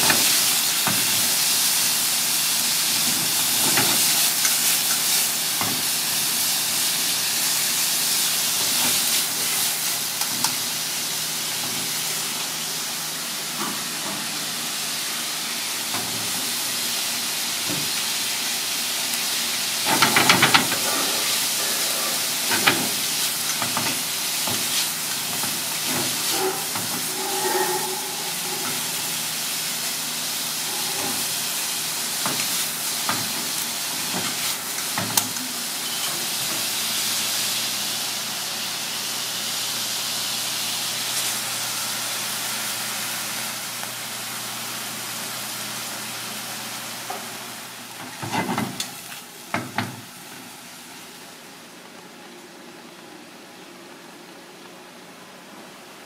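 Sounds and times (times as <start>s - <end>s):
food sizzling in a pan: 0.0s - 52.0s.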